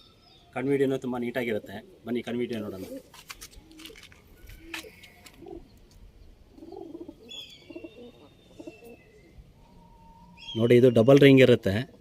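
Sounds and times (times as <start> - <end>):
pigeons cooing faintly: 0.0 - 12.0.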